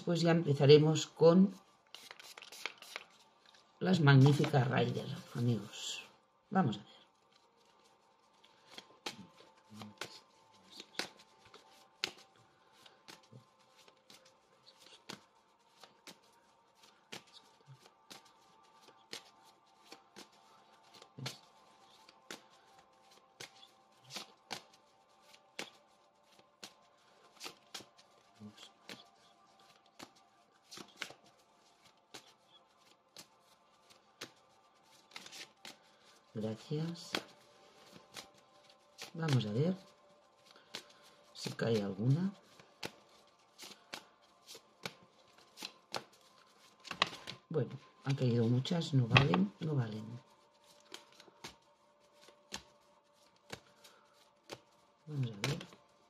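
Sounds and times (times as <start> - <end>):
cards being shuffled: 1.0 - 6.1, 7.1 - 56.0.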